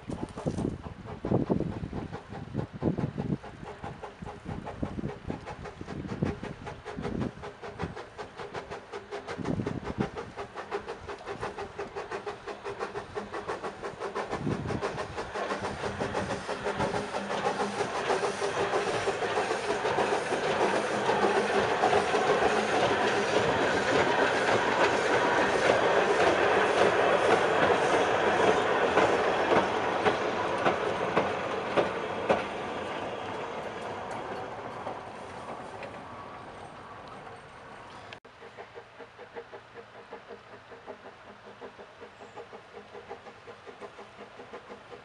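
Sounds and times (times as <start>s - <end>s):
steam locomotive exhaust beats: 0.0s - 45.0s.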